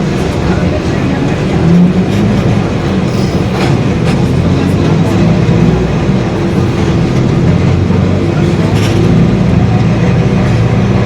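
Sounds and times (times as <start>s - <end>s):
bus body rattling and clicking: 0.0s - 11.0s
bus engine humming: 0.0s - 11.0s
rear differential growling: 0.0s - 11.0s.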